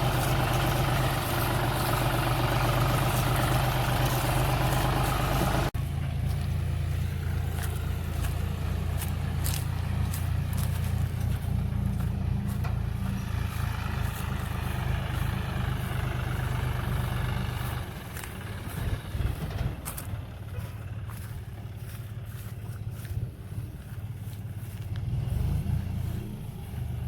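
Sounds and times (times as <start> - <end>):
diesel engine rumbling: 0.0 - 27.0.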